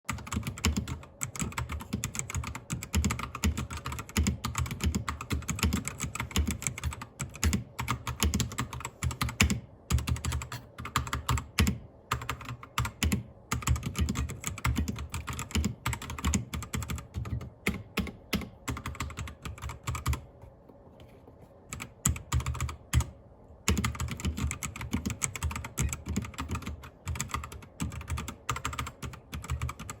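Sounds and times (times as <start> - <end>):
keyboard typing: 0.1 - 20.8, 21.7 - 30.0.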